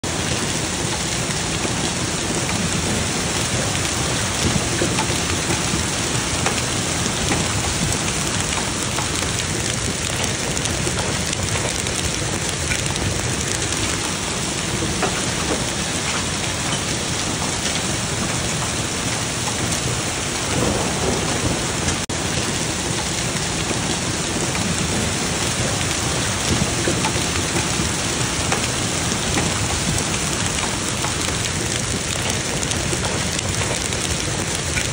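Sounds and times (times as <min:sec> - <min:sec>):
hailstones pelting a lawn: 0:00.0 - 0:34.9.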